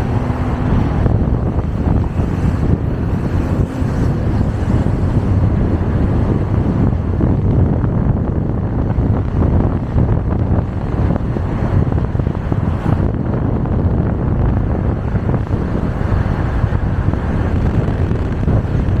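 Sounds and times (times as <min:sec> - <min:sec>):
moving car rumble: 0:00.0 - 0:19.0
wind buffeting microphone: 0:00.0 - 0:19.0.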